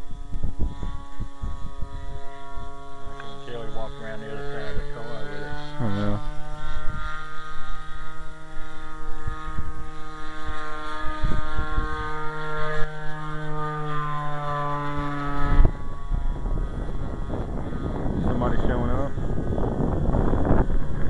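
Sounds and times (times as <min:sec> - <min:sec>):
model plane engine droning: 0:00.0 - 0:21.0
wind buffeting microphone: 0:00.0 - 0:21.0.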